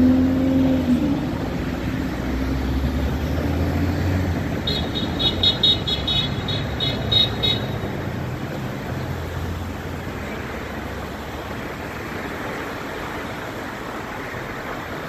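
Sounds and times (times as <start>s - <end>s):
street traffic driving past: 0.0s - 15.0s.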